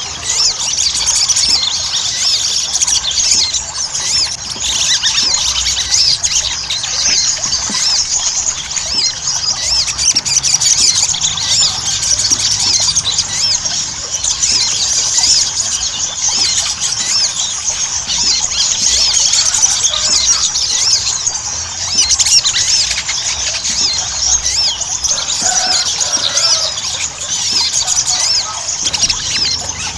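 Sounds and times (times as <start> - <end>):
bird singing rapid chirps: 0.0 - 29.9.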